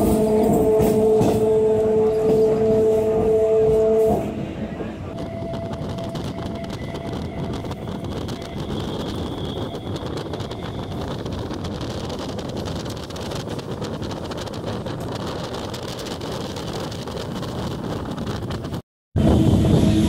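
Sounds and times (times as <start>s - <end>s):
train rumbling along track: 0.0s - 20.0s
wind noise on microphone: 0.0s - 20.0s.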